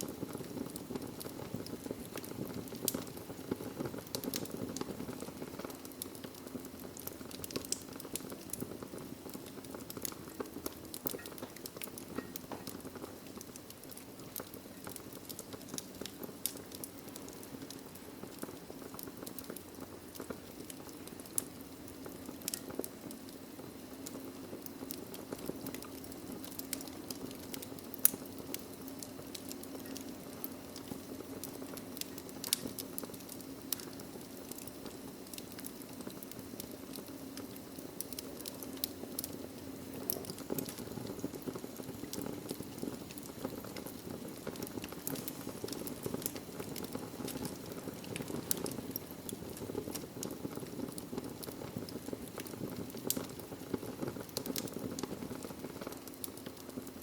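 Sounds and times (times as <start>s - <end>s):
burning wood crackling: 0.0s - 57.0s
fire rushing: 0.0s - 57.0s.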